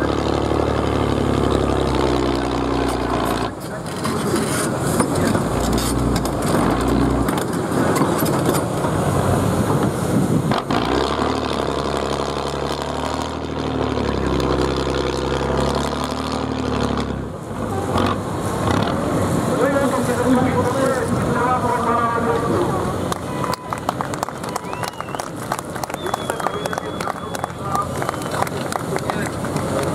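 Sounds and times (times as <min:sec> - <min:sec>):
truck engine revving: 0:00.0 - 0:29.9.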